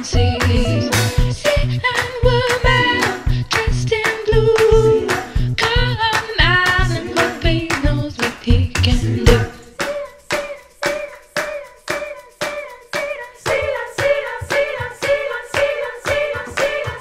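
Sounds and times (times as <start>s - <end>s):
wordless sung melody: 0.0s - 17.0s
hand claps on a steady beat: 0.4s - 17.0s.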